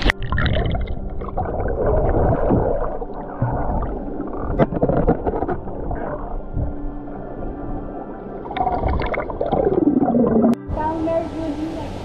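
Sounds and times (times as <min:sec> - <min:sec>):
underwater gurgling and bubbling: 0:00.0 - 0:10.6
water splashing: 0:00.0 - 0:12.0.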